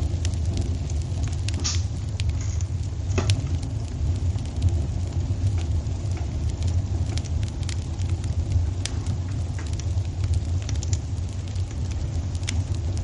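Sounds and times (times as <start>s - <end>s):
low rumble: 0.0s - 13.0s
wood fire crackling: 0.0s - 13.0s.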